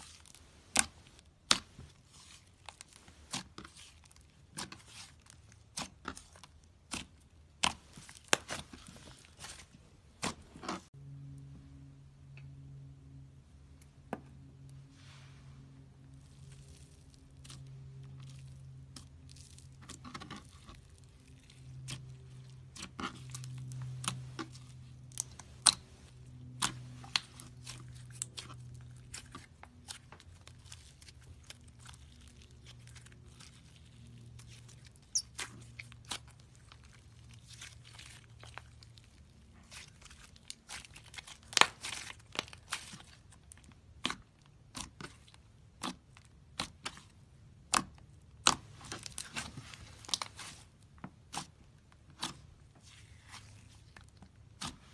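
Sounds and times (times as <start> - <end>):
slime squishing with clicks: 0.0 - 11.5, 12.1 - 14.8, 16.0 - 54.9
low steady hum: 0.0 - 54.9.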